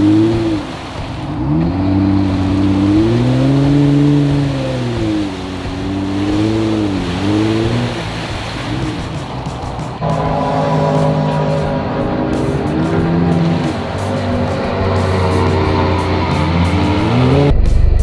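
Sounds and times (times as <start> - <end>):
splashing through mud and water: 0.0 - 17.5
car engine revving: 0.0 - 17.6.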